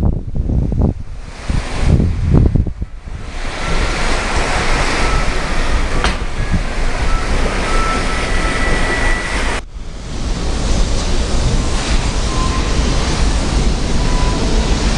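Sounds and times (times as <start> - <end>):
ship rumble and rush: 0.0 - 14.9
wind on microphone: 0.0 - 14.9.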